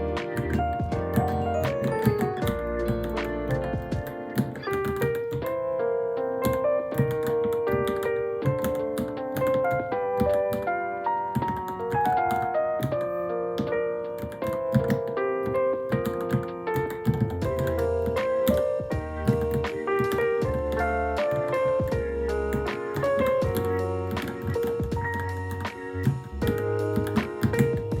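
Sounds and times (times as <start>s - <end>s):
background piano music: 0.0s - 28.0s
keyboard keys clicking: 0.0s - 28.0s.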